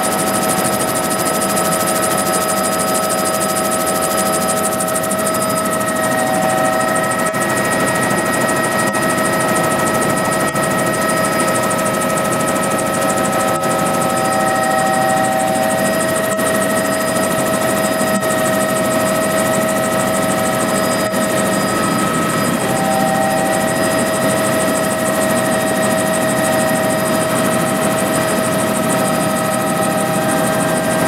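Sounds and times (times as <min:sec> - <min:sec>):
helicopter engine and rotors: 0:00.0 - 0:31.0
high even whine: 0:02.4 - 0:31.0.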